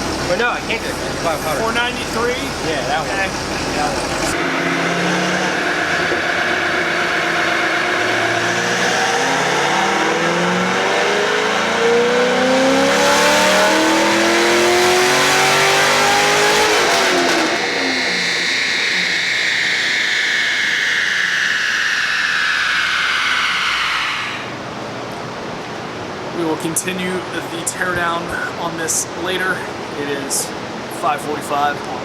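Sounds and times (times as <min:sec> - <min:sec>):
car engine at full throttle: 0:00.0 - 0:26.2.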